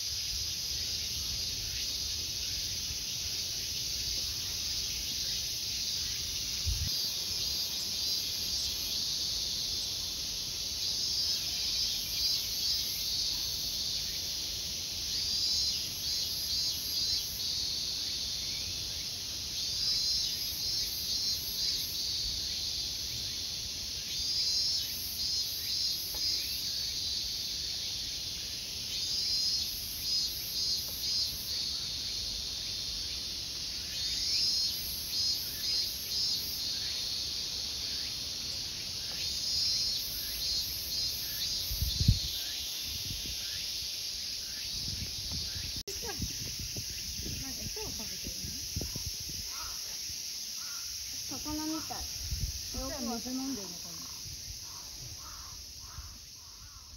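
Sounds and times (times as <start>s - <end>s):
cicadas shrilling: 0.0s - 56.9s.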